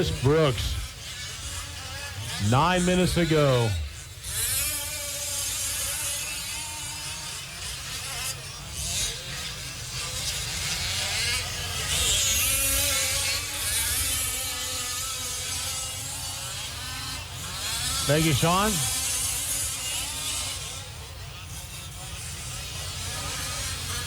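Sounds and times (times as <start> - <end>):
small two-stroke engines buzzing: 0.0 - 24.0.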